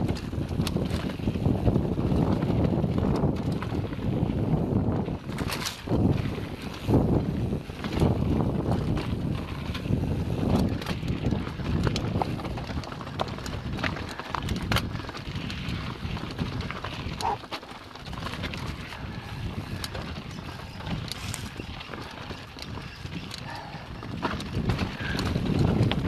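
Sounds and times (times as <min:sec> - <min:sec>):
bike clicking and rattling: 0:00.0 - 0:26.0
wind buffeting microphone: 0:00.0 - 0:26.0.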